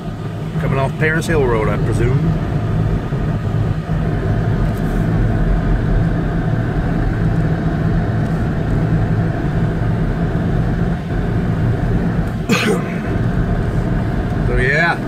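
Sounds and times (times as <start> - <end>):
car engine hum: 0.0 - 15.0
tyre and road noise: 0.0 - 15.0.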